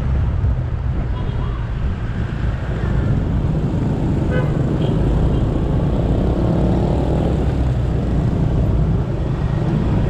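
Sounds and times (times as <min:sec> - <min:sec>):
road noise and traffic: 0:00.0 - 0:10.0.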